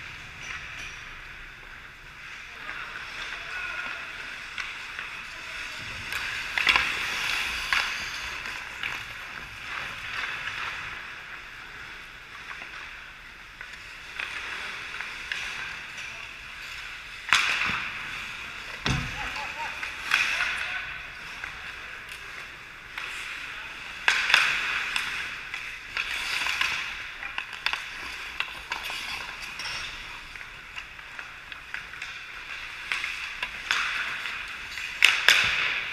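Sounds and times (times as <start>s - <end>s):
skates scraping on ice: 0.0s - 35.9s
stick and puck clacks: 2.6s - 5.3s, 5.9s - 35.9s.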